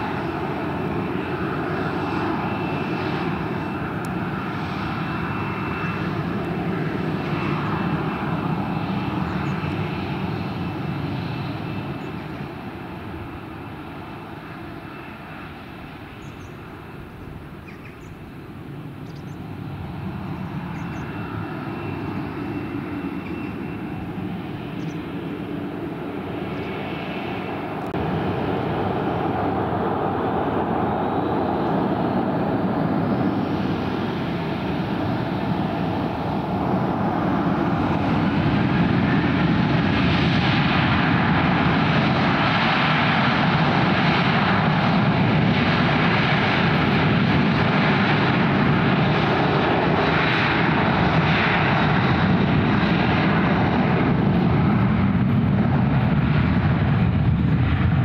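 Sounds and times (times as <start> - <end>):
jet engine whine: 0.0 - 58.0
jet engines roaring: 0.0 - 58.0.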